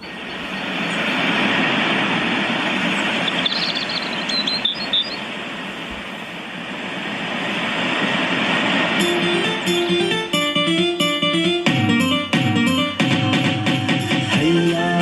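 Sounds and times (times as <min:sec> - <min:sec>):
rushing noise through speakers: 0:00.0 - 0:15.0.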